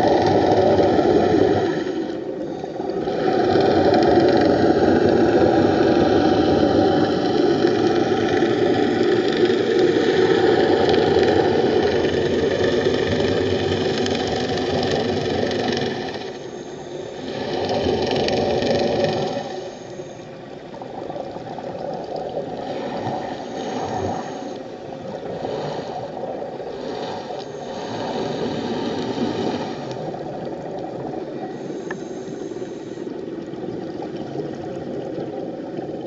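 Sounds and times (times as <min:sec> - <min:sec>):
underwater mechanical drone: 0:00.0 - 0:36.0.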